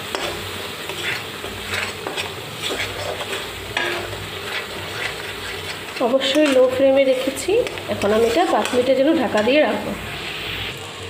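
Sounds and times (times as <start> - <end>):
spatula scraping a pan: 0.0 - 10.0
spice paste sizzling: 0.0 - 11.0.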